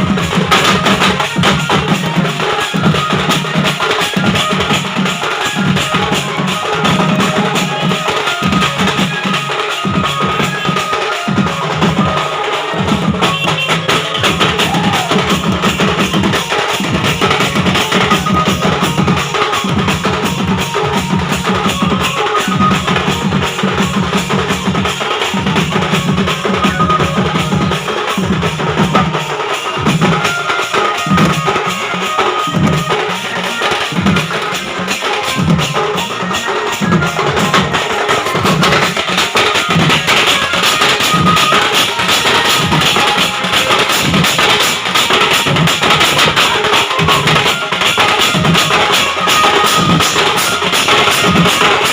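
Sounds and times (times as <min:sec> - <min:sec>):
heavy drums: 0:00.0 - 0:51.9
loud band music: 0:00.0 - 0:51.9.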